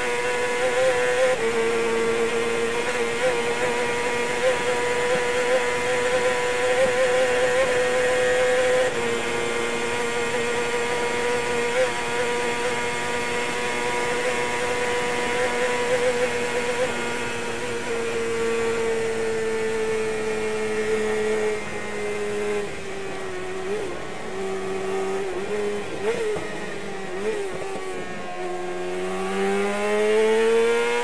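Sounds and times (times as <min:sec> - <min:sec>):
motorcycle engine at high revs: 0:00.0 - 0:31.0
wind and road noise: 0:00.0 - 0:31.0.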